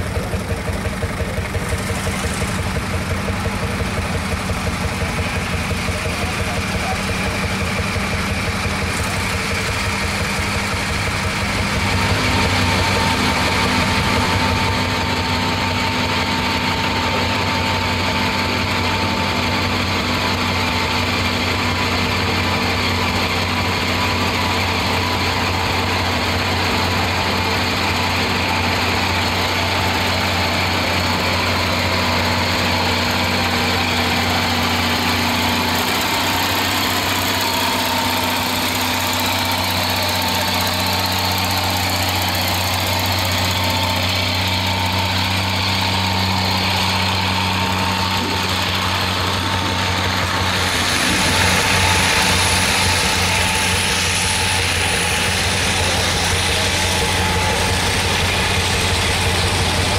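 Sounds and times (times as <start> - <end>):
diesel tractor engine under load: 0.0 - 59.9.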